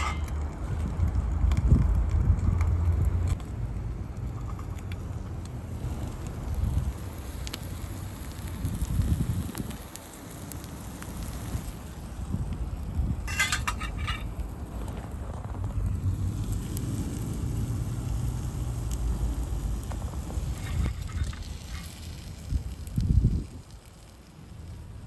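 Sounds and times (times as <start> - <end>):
charcoal fire crackling: 0.0 - 25.0
wind rumbling on microphone: 0.0 - 25.0.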